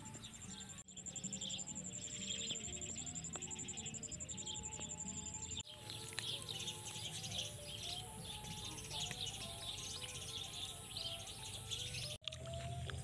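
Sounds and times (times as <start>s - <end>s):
high insect drone: 0.0s - 12.0s
birds chirping: 0.0s - 13.0s
soft instrumental music: 0.0s - 13.0s.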